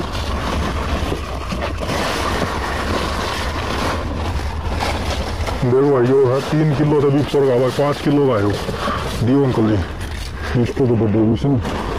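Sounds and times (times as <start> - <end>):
leaves rustling: 0.0 - 11.9.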